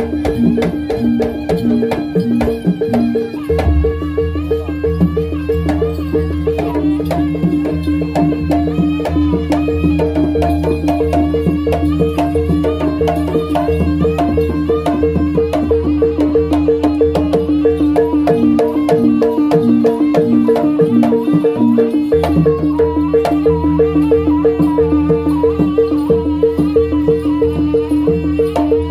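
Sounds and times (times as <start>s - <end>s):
hand drums busy rhythm: 0.0s - 28.9s
wind instrument bending melody: 0.0s - 28.9s.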